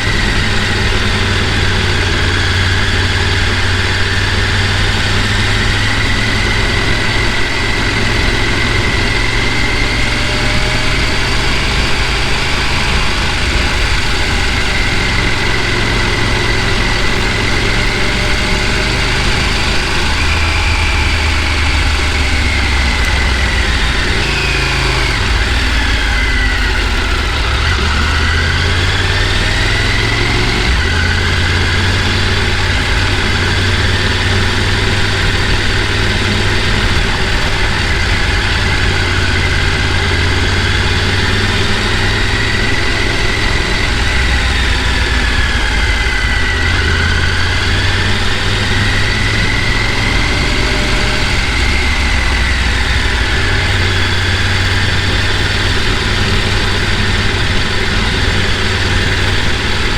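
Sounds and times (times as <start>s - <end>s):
faint whine: 0.0s - 59.9s
vehicle engine running: 0.0s - 59.9s.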